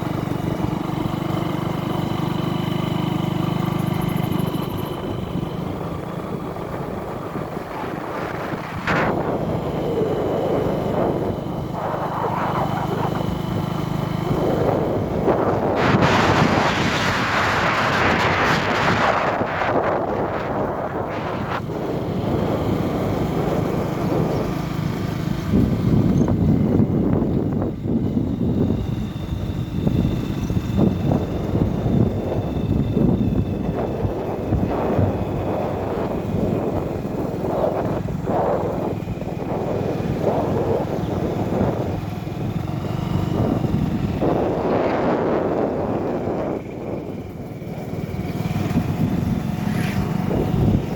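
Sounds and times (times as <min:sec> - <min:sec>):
vehicle engine running: 0:00.0 - 0:50.9
wind buffeting microphone: 0:00.0 - 0:50.9.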